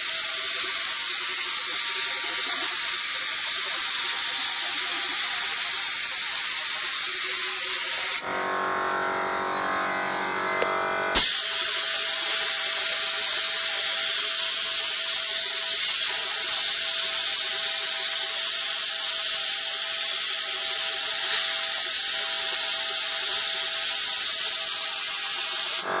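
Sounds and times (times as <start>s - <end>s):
spray gun hissing: 0.0s - 8.3s, 11.2s - 25.9s
mechanical hum: 0.0s - 26.0s.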